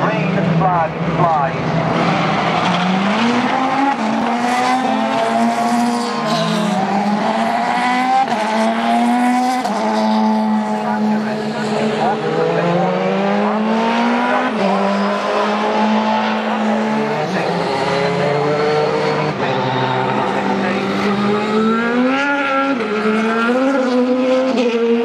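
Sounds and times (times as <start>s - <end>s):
race car engines at speed: 0.0s - 25.0s.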